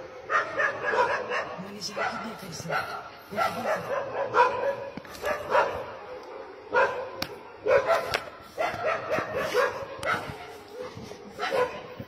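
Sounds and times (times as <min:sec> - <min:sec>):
dogs barking: 0:00.0 - 0:12.0.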